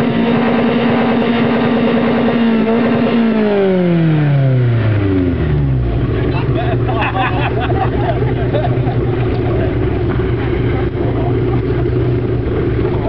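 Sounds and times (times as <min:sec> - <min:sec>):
car engine revving through loud exhaust: 0:00.0 - 0:13.0.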